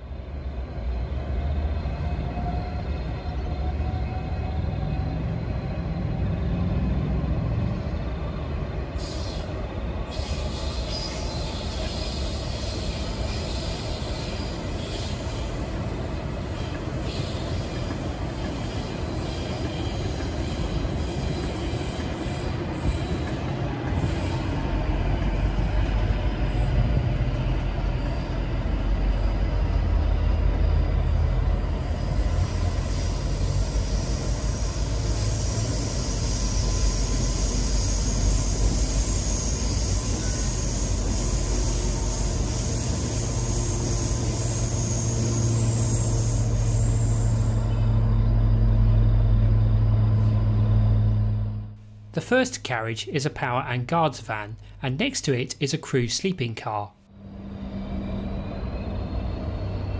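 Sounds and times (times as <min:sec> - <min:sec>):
diesel locomotive engine rumble: 0:00.0 - 0:52.4, 0:57.1 - 0:59.9
electric trains passing: 0:00.0 - 0:53.5, 0:57.0 - 0:59.9.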